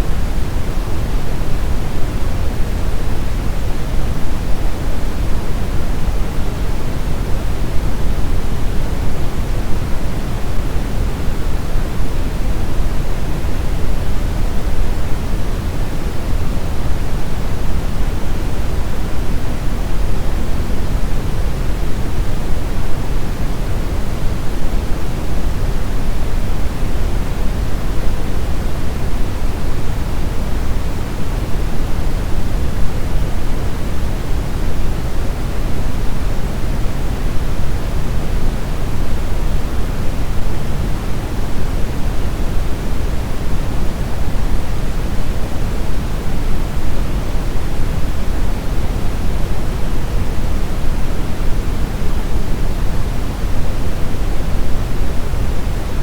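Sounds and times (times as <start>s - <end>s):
brown noise rushing hiss: 0.0s - 56.0s.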